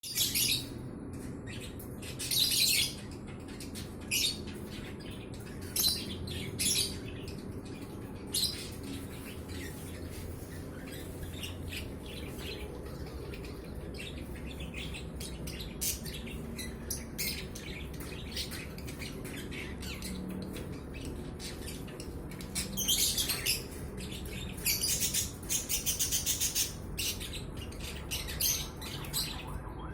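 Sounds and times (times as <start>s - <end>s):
bird chirping: 0.0s - 29.9s.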